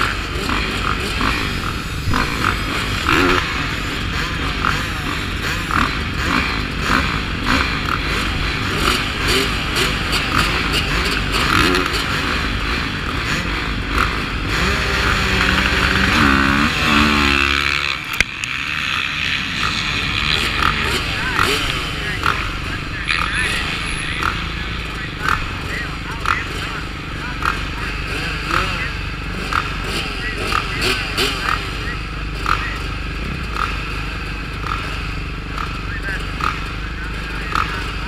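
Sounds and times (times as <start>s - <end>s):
motocross engines revving: 0.0s - 38.0s.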